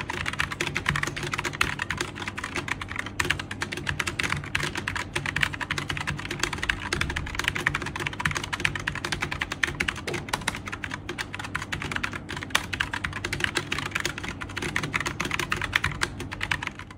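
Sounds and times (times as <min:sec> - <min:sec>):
clicky keyboard typing: 0:00.0 - 0:16.9.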